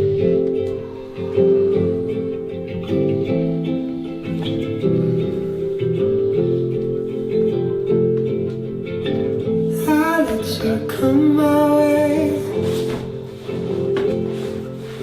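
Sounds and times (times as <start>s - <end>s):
person singing: 0.0s - 8.3s, 9.4s - 15.0s
plucked acoustic guitar: 0.0s - 15.0s.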